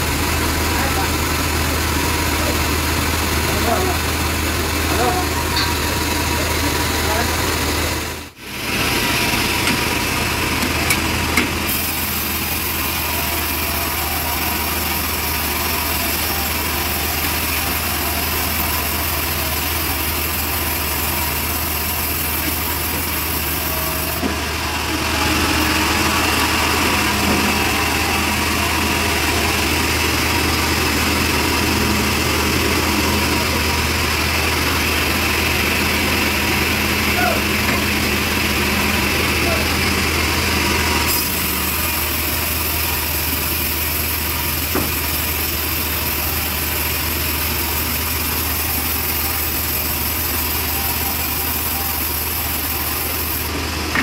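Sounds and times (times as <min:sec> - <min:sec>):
bandsaw sawmill running: 0:00.0 - 0:54.0.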